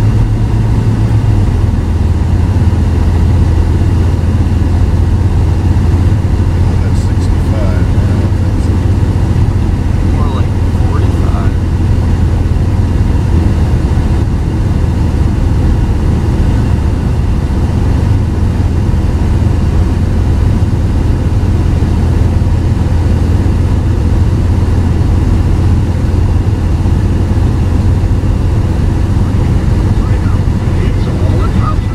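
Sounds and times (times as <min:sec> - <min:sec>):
car engine and road noise drone: 0:00.0 - 0:31.9.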